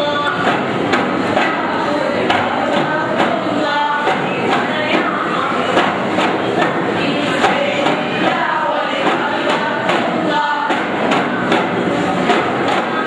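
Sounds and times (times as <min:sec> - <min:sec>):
frame drums beating: 0:00.0 - 0:13.0
group singing in chorus: 0:00.0 - 0:13.0.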